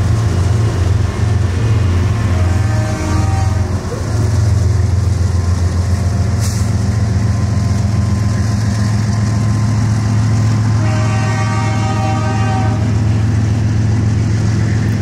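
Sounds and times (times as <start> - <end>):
diesel engines droning: 0.0 - 15.0
freight train rolling by: 0.0 - 15.0.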